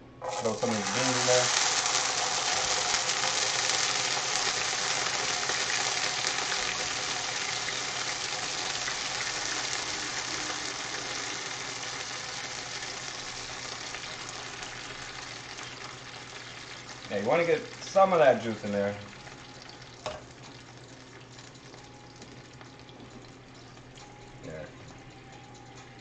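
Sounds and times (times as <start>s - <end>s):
beans sizzling in hot oil: 0.2s - 24.6s.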